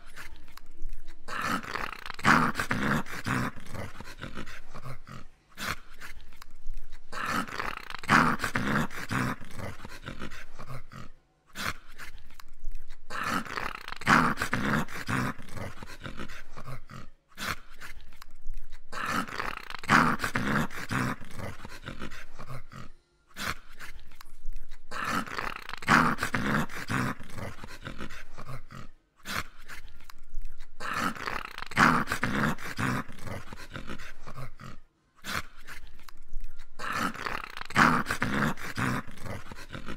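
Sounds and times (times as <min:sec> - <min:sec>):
dog growling: 0:00.0 - 0:39.9.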